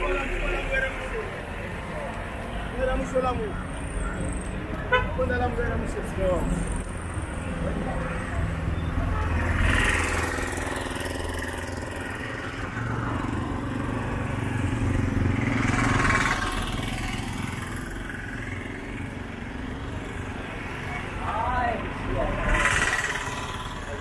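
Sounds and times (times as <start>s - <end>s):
background traffic noise: 0.0s - 24.0s
vehicle engines running: 0.0s - 24.0s.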